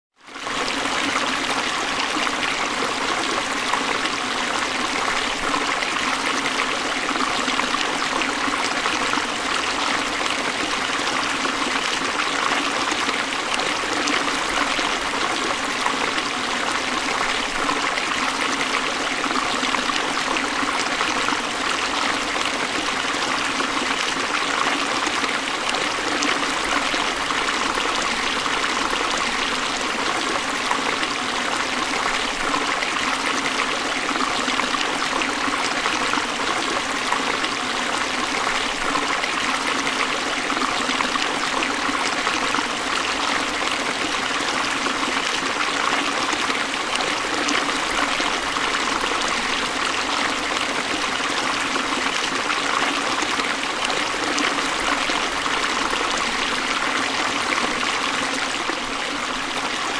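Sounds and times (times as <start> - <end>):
stream splashing over rocks: 0.3 - 59.9.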